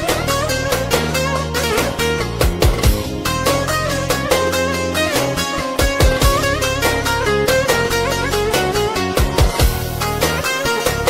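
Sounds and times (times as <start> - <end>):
string melody over steady beat: 0.0 - 11.0.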